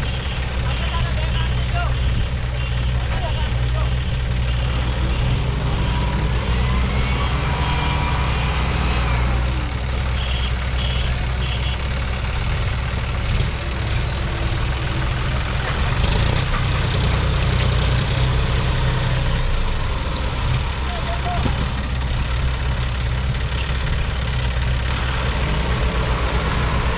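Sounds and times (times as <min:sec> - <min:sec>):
tractor engines humming: 0:00.0 - 0:26.9.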